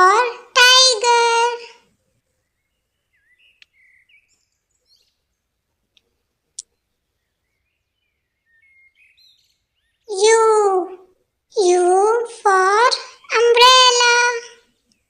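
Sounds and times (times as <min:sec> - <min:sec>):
faint bird chirps: 0:01.6 - 0:15.0.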